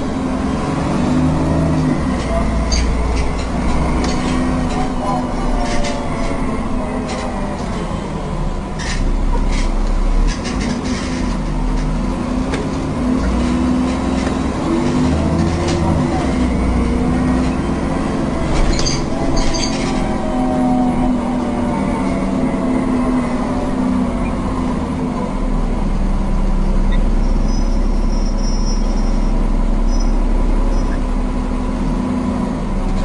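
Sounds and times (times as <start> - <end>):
bus engine and transmission whine: 0.0 - 33.0
heavy rumble: 0.0 - 33.0.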